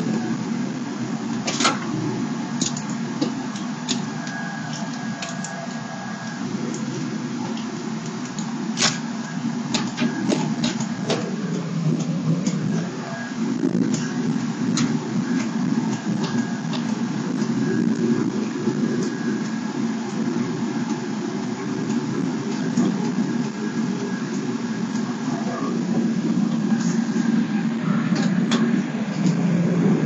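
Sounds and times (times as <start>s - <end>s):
truck engine and road rumble: 0.0s - 30.0s.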